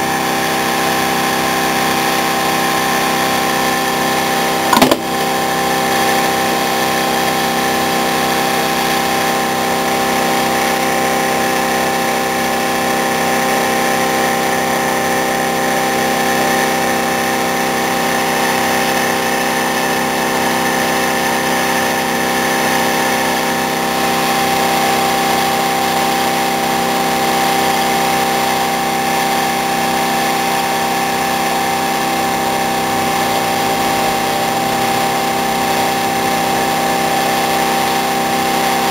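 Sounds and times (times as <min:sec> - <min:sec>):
electric motor whine: 0:00.0 - 0:38.9.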